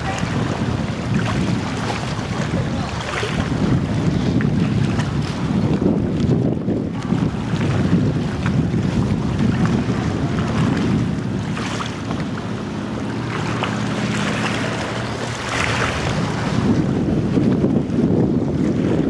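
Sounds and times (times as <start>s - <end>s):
water lapping and splashing: 0.0s - 19.0s
wind buffeting microphone: 0.0s - 19.0s.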